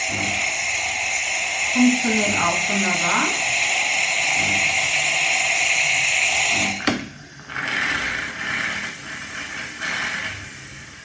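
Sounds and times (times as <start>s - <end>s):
espresso steam wand hissing: 0.0s - 11.0s.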